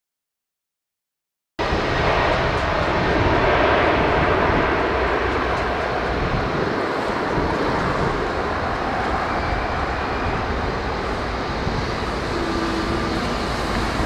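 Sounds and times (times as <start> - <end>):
jet engines rushing: 1.6 - 14.0.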